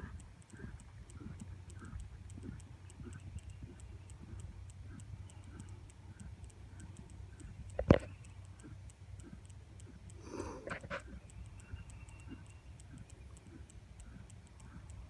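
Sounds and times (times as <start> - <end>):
muffled hoofbeats on grass: 0.0 - 15.0.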